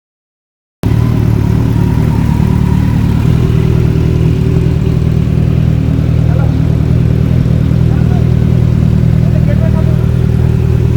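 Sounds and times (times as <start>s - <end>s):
motorcycle engine idling: 0.8s - 10.9s.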